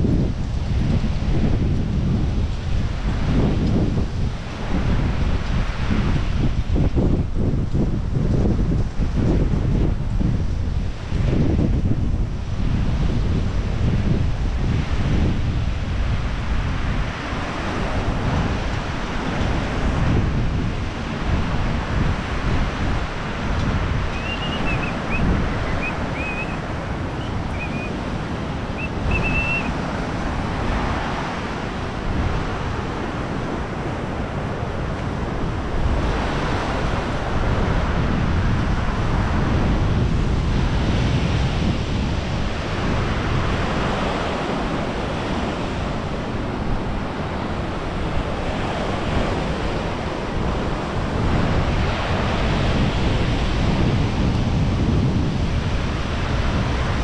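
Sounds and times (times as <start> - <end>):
waves breaking on shore: 0.0 - 57.0
wind buffeting microphone: 0.0 - 57.0.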